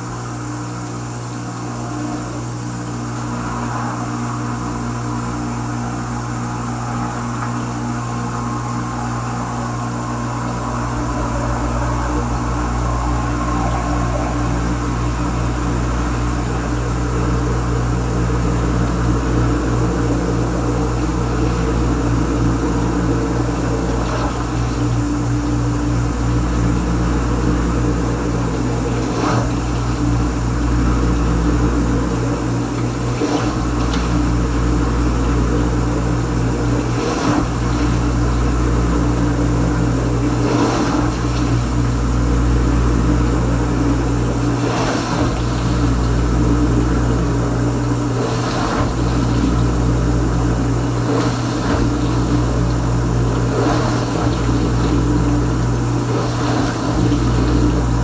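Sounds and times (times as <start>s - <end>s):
dishwasher pump motor humming: 0.0s - 58.0s
water spraying: 3.0s - 58.0s
water swish: 3.0s - 58.0s.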